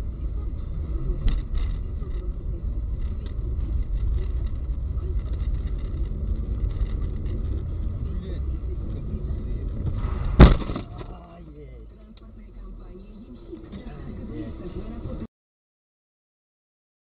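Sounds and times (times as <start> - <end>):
car engine and tyres rumbling: 0.0 - 15.3.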